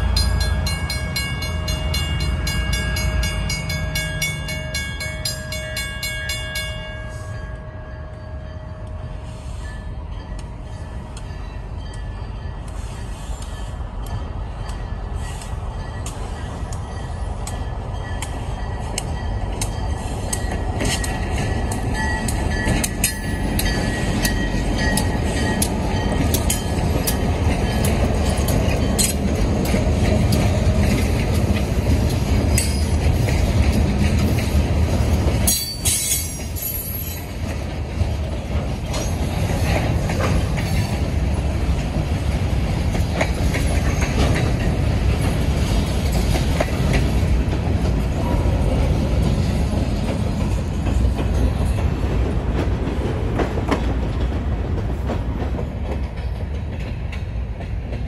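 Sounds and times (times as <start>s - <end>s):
diesel locomotives rumbling: 0.0s - 58.0s
freight cars rumbling: 0.0s - 58.0s
wheels clacking over rail joints: 10.2s - 58.0s.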